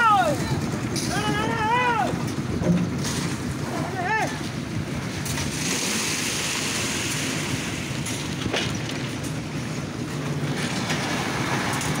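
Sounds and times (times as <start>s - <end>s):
machine engine rumbling: 0.0s - 12.0s.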